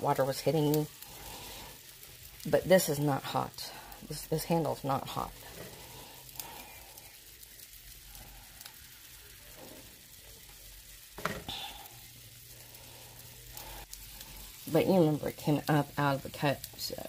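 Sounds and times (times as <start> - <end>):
water boiling with sizzling hiss: 0.0 - 17.0.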